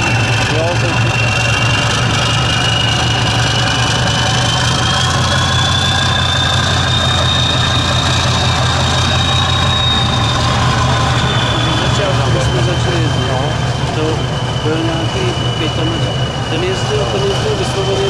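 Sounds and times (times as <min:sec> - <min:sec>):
diesel truck engine at low revs: 0:00.0 - 0:18.0
high whine rising in pitch: 0:00.0 - 0:18.0.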